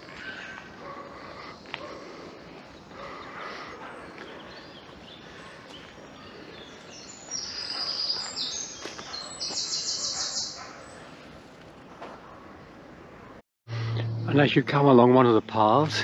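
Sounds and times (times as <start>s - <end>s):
songbird singing: 0.0s - 11.3s, 13.7s - 16.0s.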